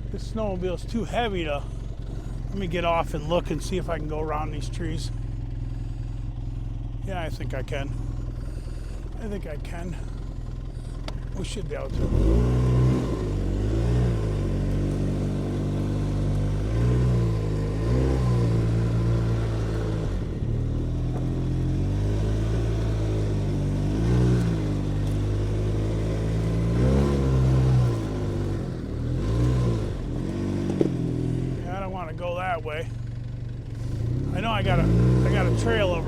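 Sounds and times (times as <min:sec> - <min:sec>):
snowmobile engine revving: 0:00.0 - 0:06.1, 0:06.9 - 0:32.9, 0:33.7 - 0:36.0.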